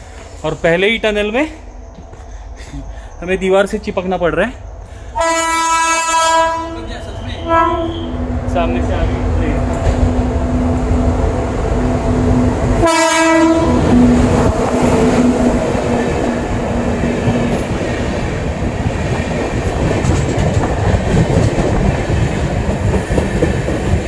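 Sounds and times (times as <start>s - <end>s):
train wheels rumbling and clattering: 0.0s - 24.0s.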